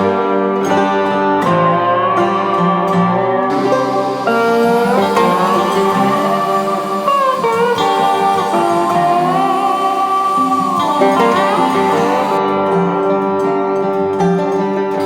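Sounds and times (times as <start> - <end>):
guitar music with sliding notes: 0.0 - 15.0.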